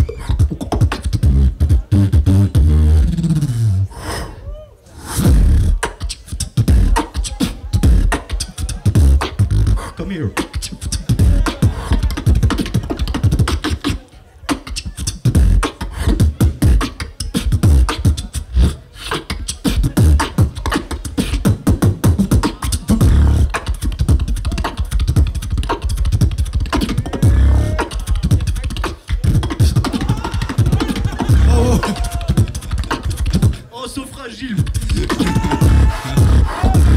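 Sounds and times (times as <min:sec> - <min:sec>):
beatboxing through microphone: 0:00.0 - 0:36.9.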